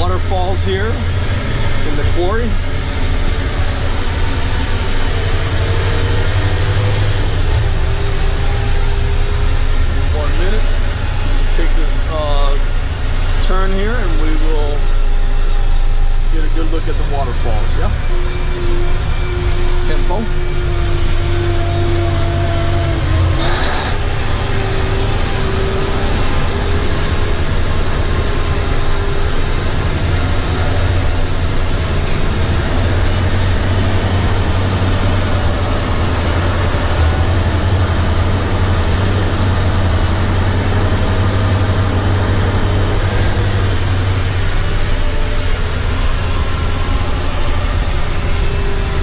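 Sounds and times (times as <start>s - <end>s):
truck diesel engine drone: 0.0s - 49.0s
whining tone: 0.0s - 49.0s.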